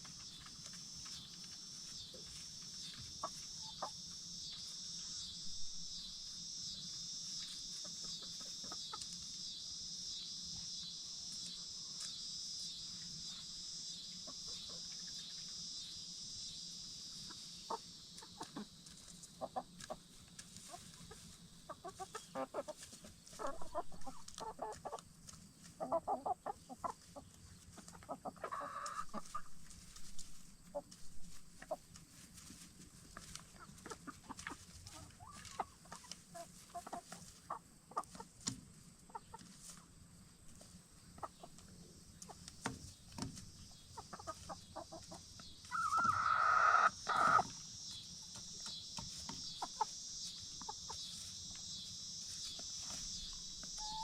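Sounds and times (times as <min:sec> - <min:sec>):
hens clucking: 0:00.0 - 0:09.5, 0:12.9 - 0:15.8, 0:17.1 - 0:54.0.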